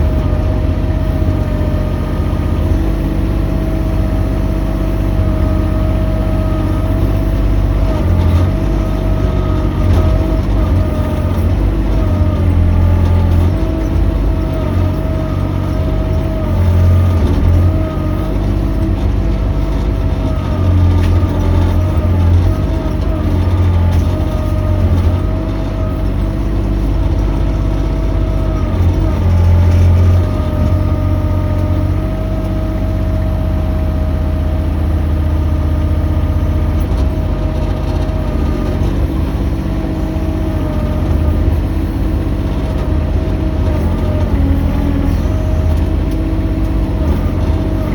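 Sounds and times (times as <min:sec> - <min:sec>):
excavator engine: 0:00.0 - 0:47.9.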